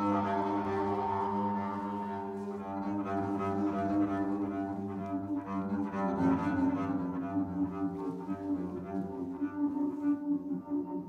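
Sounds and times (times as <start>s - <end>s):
low bowed string tones: 0.0s - 11.0s.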